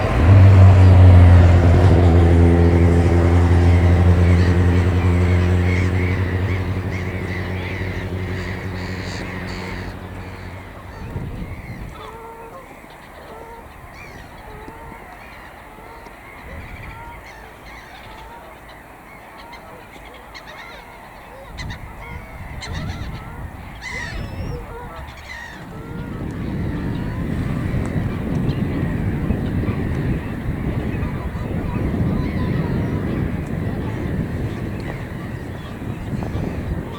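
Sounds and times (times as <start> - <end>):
low engine drone: 0.0 - 18.5, 22.1 - 36.9
geese honking: 0.0 - 18.8, 19.4 - 36.9.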